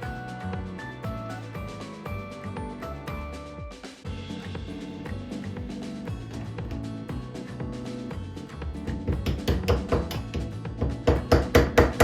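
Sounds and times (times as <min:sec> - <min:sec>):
music with percussive beat: 0:00.0 - 0:12.0.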